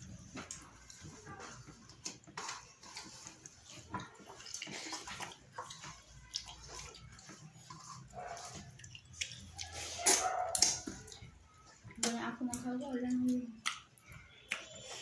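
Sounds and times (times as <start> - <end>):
wet chewing and lip-smacking: 0.3 - 15.0.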